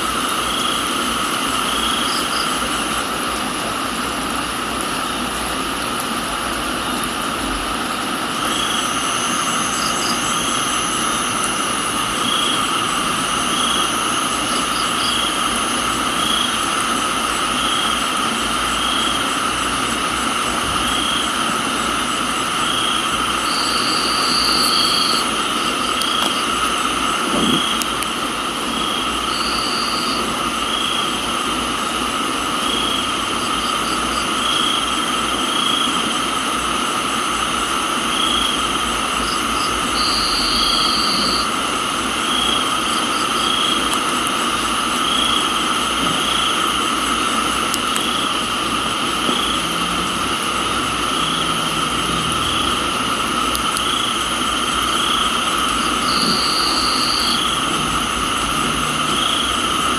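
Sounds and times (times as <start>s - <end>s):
insect trill: 0.0s - 3.3s, 6.8s - 59.9s
crickets and insects chirring: 0.0s - 59.9s
rain hiss: 0.0s - 59.9s.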